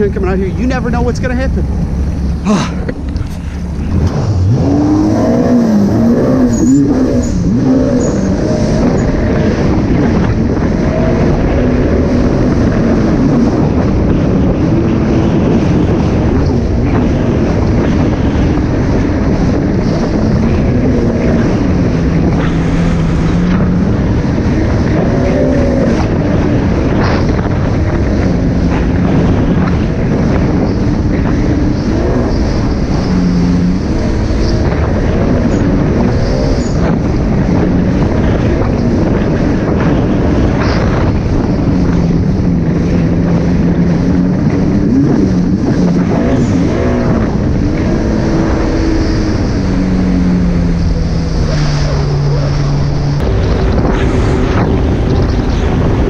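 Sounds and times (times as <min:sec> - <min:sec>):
watercraft engine running: 0:00.0 - 0:56.0
wind buffeting microphone: 0:00.0 - 0:56.0.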